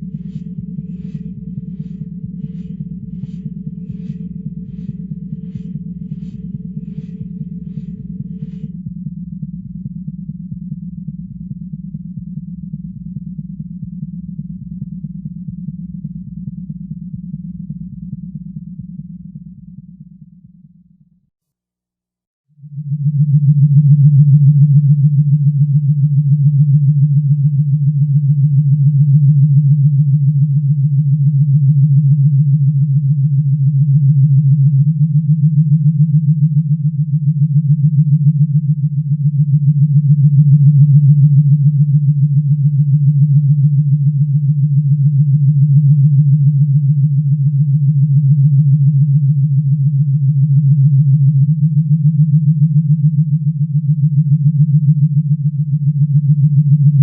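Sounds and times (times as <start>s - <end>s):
pulsing synthesized hum: 0.0s - 20.6s, 22.6s - 57.0s.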